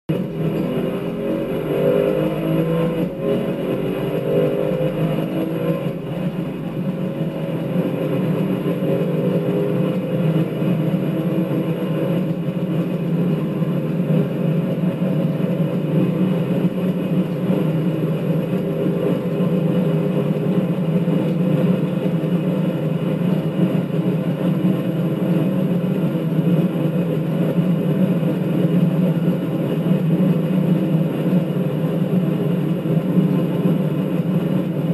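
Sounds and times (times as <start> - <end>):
car engine at full throttle: 0.1 - 34.9.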